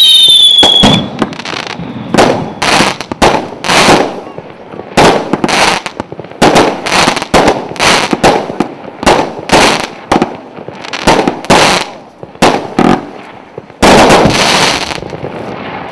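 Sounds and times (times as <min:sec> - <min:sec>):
firework bangs with hiss: 0:00.0 - 0:15.9.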